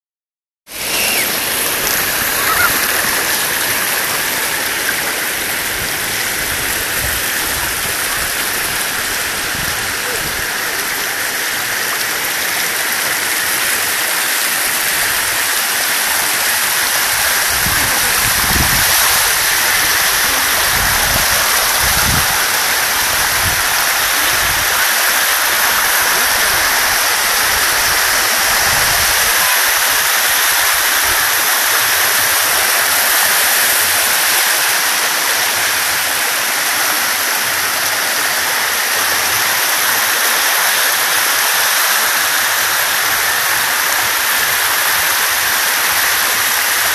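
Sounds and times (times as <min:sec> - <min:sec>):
water rushing over terraces: 0:00.7 - 0:46.9.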